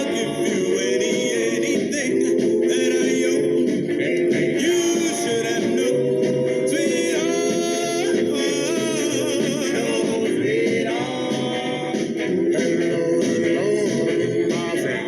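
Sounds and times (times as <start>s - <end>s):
light backing beat: 0.0s - 15.0s
vocal group singing in harmony: 0.0s - 15.0s.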